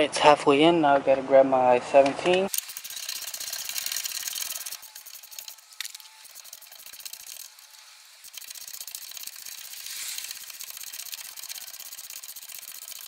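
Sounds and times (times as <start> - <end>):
hand ratchet clicking: 2.5 - 13.0.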